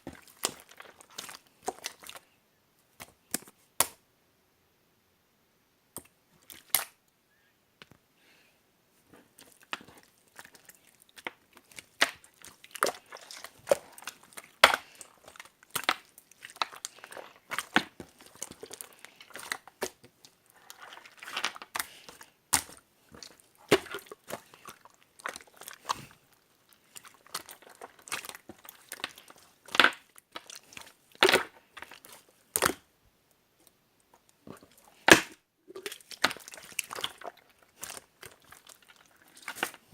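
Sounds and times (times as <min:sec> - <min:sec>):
slime squelching and popping: 0:00.0 - 0:02.3, 0:06.0 - 0:07.0, 0:09.2 - 0:32.9, 0:34.2 - 0:39.9.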